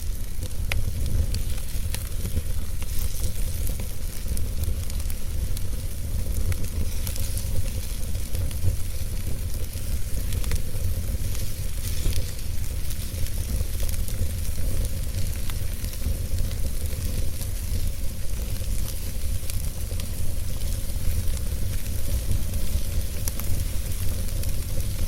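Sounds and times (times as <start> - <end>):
fire flames rumbling: 0.0 - 25.0
wood crackling and popping: 0.0 - 25.0.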